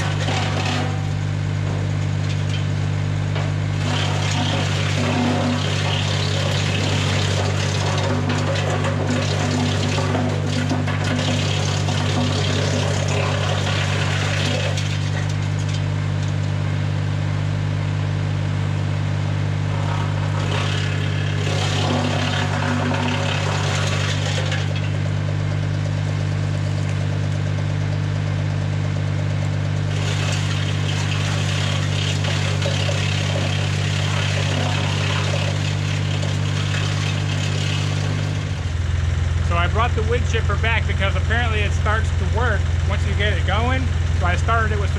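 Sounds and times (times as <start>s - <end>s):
wood chipper low drone: 0.0s - 44.9s.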